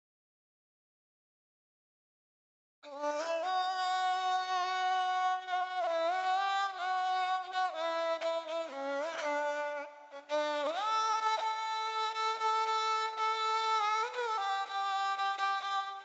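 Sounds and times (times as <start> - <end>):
bowed string instrument melody: 2.9 - 16.0.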